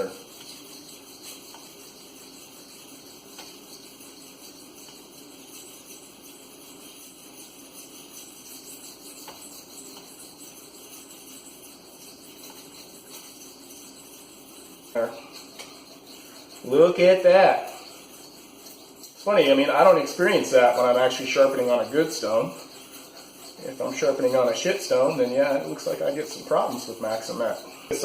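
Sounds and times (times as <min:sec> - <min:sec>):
knife scraping on whetstone: 0:00.0 - 0:28.0.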